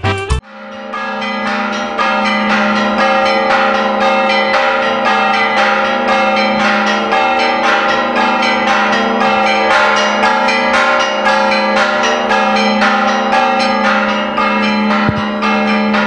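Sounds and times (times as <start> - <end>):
church bells pealing fast: 0.4 - 16.0.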